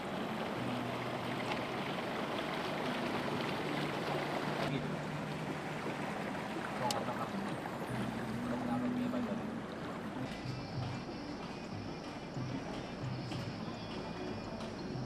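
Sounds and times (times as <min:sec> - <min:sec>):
floodwater flowing: 0:00.0 - 0:15.0.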